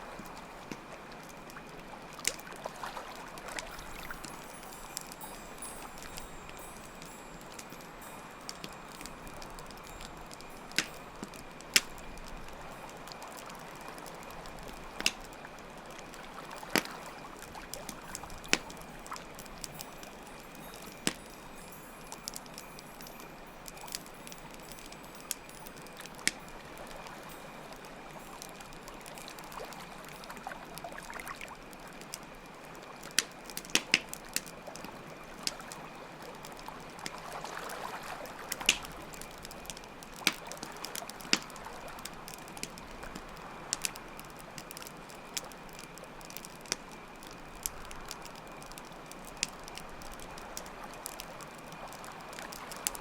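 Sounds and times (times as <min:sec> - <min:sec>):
campfire crackling: 0:00.0 - 0:53.0
water trickling: 0:00.0 - 0:53.0
crickets chirping: 0:03.2 - 0:53.0.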